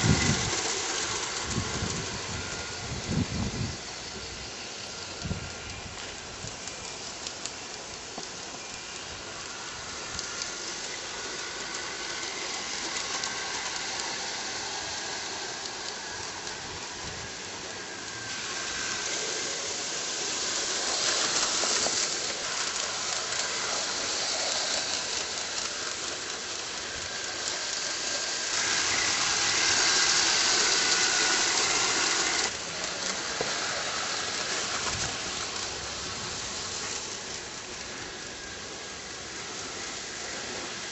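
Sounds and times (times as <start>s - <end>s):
model streetcar running on track: 0.0s - 40.9s.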